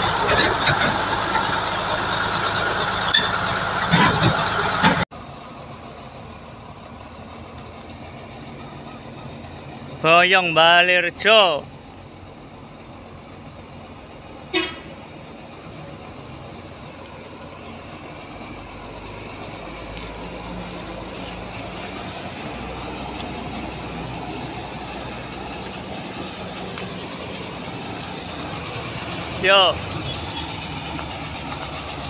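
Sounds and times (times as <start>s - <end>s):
truck diesel engine running: 0.0s - 32.0s.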